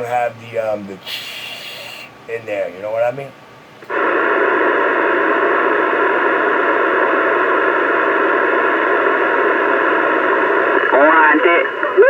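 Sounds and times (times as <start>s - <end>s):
radio static hissing: 0.0s - 12.0s.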